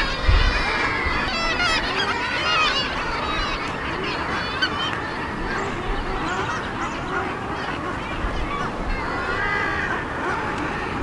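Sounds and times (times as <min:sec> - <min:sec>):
seabirds calling: 0:00.0 - 0:11.0.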